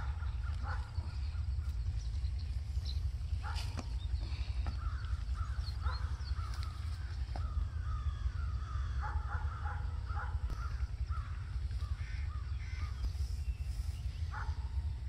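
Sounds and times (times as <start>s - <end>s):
birds calling: 0.0s - 15.0s
steady low rumble: 0.0s - 15.0s.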